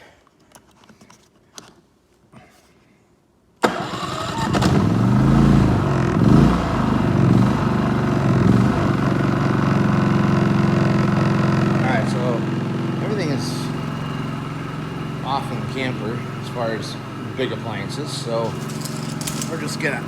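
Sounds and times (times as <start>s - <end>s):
generator engine running: 3.7s - 20.0s.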